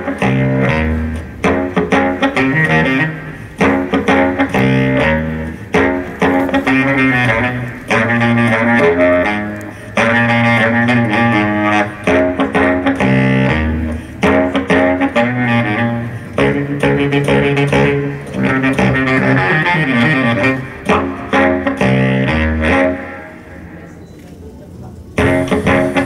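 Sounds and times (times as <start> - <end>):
melodic music over loudspeakers: 0.0 - 23.8, 25.1 - 26.0.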